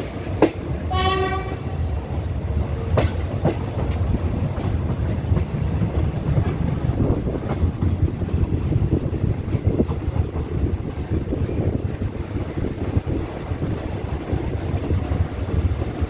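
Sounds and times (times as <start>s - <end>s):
clacks over rail joints: 0.0s - 16.0s
train wheels rumbling on rails: 0.0s - 16.0s.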